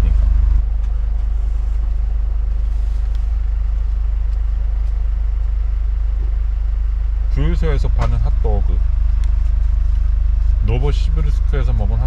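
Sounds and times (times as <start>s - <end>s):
van engine idling: 0.0s - 12.0s.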